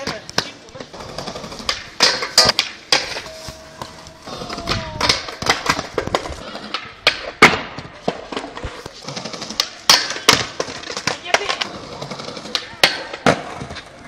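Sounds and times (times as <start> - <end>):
skateboard clacking on stone: 0.0 - 14.0.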